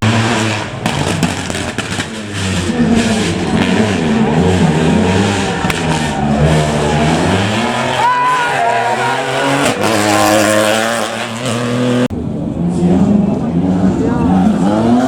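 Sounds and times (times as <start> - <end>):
rally car engine revving hard: 0.0 - 12.1, 12.8 - 15.0.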